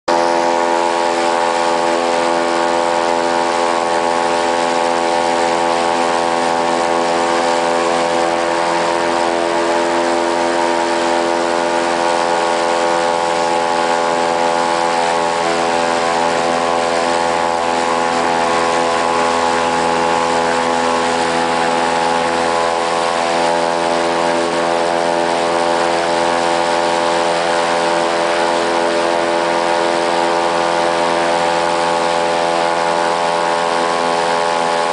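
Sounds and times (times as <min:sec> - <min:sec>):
airboat engine and propeller drone: 0:00.1 - 0:34.9.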